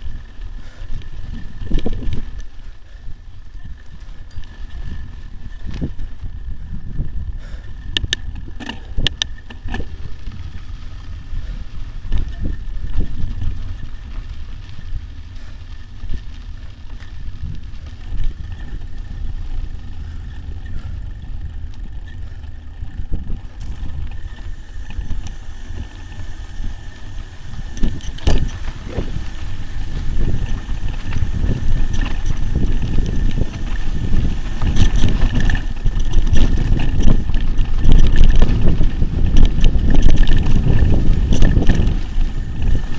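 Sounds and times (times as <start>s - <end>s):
bike rattling and knocking: 0.0s - 42.9s
bike tyres rumbling on dirt: 0.0s - 42.9s
wind buffeting microphone: 0.0s - 42.9s.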